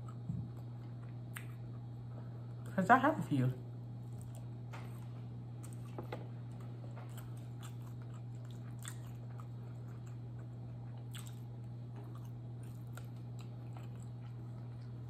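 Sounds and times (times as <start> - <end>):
biting and chewing food: 0.0 - 1.9, 4.0 - 15.0
steady low hum: 0.0 - 15.0.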